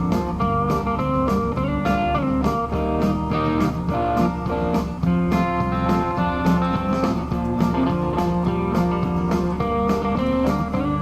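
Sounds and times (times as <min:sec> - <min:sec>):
bass: 0:00.0 - 0:11.0
drum beat: 0:00.0 - 0:11.0
lead guitar solo: 0:00.0 - 0:11.0.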